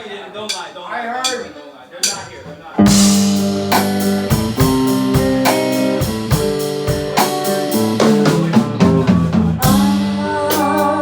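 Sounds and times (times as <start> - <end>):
plucked guitar: 2.1 - 11.0.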